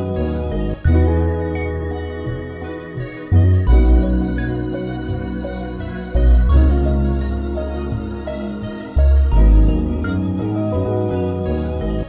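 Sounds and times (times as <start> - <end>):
deep bass note: 0.0 - 12.0
gentle keyboard tune: 0.0 - 12.0
steady beat: 0.0 - 12.0.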